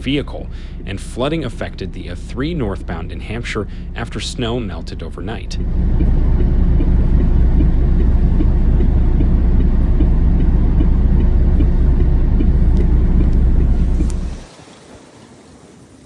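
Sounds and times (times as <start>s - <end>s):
vehicle rumble: 0.0s - 14.5s
faint evenly spaced ticks: 0.1s - 16.0s.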